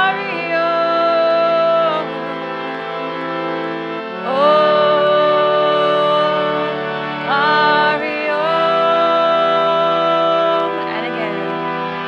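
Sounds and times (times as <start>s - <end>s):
woman singing long notes: 0.0s - 2.4s, 4.2s - 11.7s
harmonium drone: 0.0s - 12.0s.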